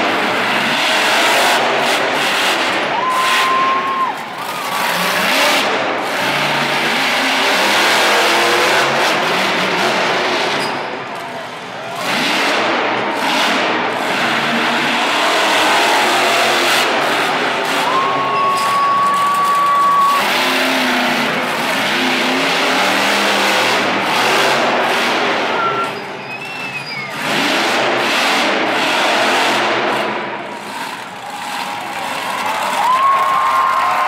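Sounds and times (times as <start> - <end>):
monster truck engine revving: 0.0 - 34.0.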